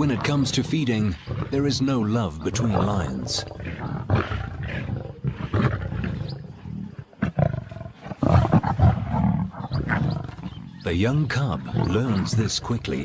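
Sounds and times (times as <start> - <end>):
lions growling and snarling: 0.0 - 13.0.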